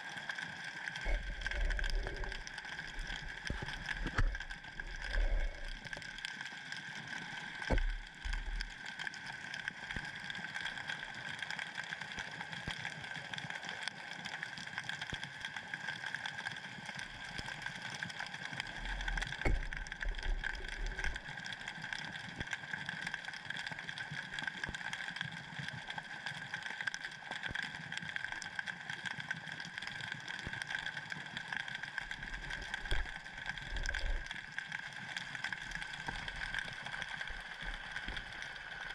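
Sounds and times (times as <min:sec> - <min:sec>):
underwater hum and hiss: 0:00.0 - 0:38.9.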